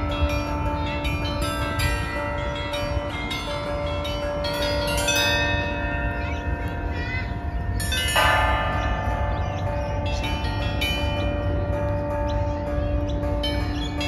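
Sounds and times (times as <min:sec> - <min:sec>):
struck bells ringing: 0:00.0 - 0:14.0.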